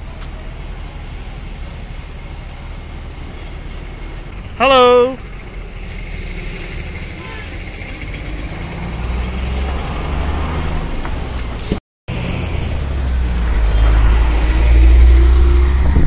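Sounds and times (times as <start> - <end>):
heavy vehicle engine rumbling past: 0.0 - 16.0.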